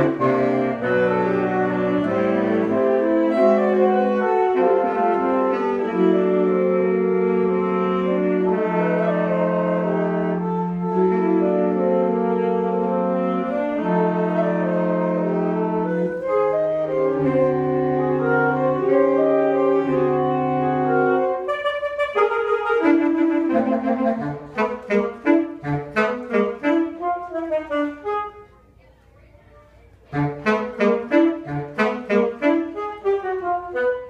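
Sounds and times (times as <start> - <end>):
saxophone quartet playing: 0.0 - 28.8, 30.0 - 34.0.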